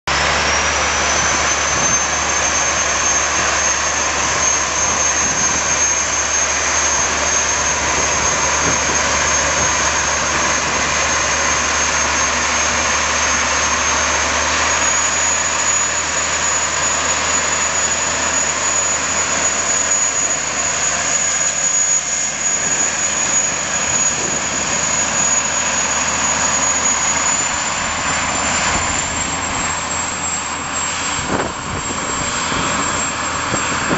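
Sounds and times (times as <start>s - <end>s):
diesel locomotive running under load: 0.0s - 33.9s
high engine whine: 0.0s - 33.9s.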